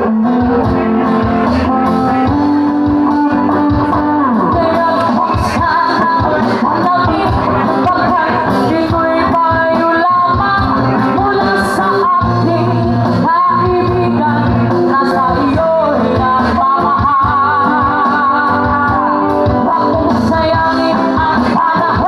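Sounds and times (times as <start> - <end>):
acoustic guitar: 0.0 - 22.0
person singing: 0.0 - 22.0.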